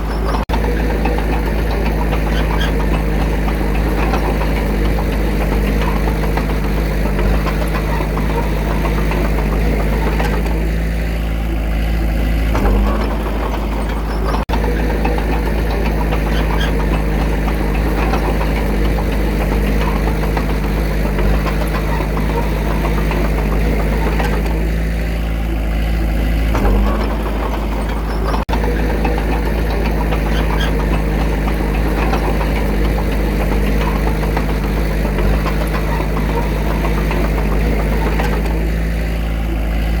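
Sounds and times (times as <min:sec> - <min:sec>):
diesel engine knocking: 0:00.0 - 0:40.0.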